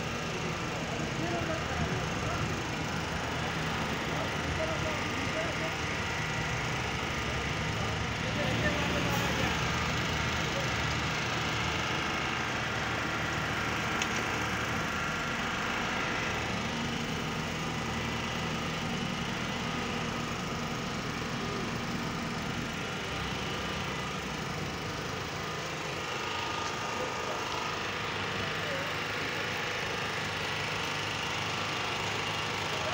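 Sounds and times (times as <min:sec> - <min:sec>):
small engine humming with whine: 0:00.0 - 0:32.9.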